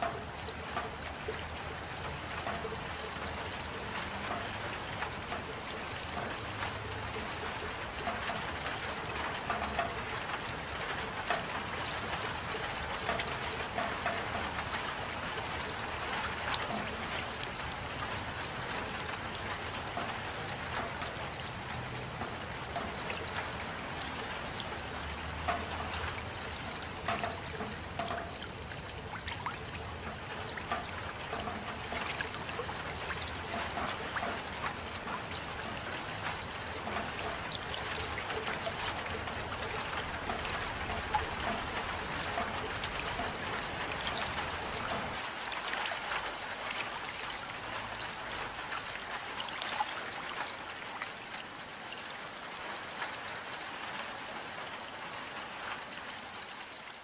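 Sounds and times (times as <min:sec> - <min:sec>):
rain drops falling: 0:00.0 - 0:57.0
water trickling: 0:00.0 - 0:57.0.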